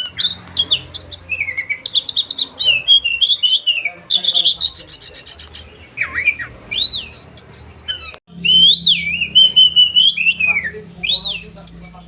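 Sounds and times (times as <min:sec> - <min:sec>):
bird singing whistled song: 0:00.0 - 0:12.0.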